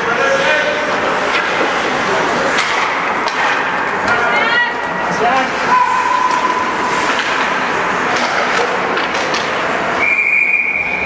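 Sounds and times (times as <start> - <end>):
skates sticks and puck on ice: 0.0 - 11.0.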